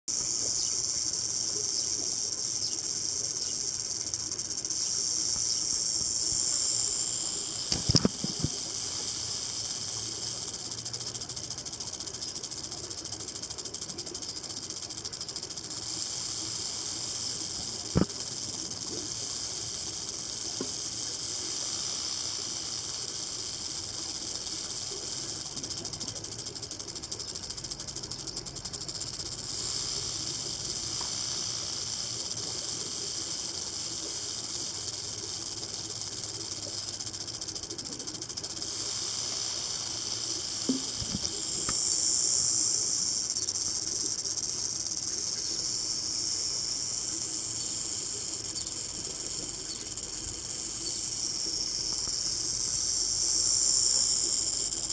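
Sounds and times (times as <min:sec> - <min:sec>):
rattlesnake tail rattling: 0:00.1 - 0:54.9.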